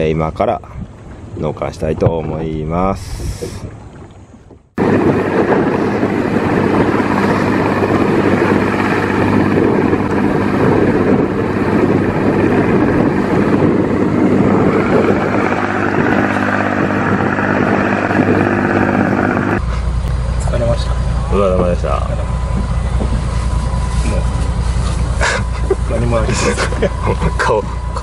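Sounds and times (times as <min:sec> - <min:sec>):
wind: 0:00.0 - 0:28.0
boat engine running: 0:00.7 - 0:28.0
water rushing: 0:00.9 - 0:28.0.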